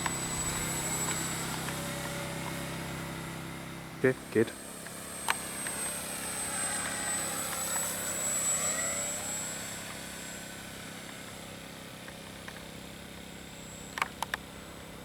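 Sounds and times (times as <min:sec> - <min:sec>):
electric model plane flying past: 0:00.0 - 0:15.0.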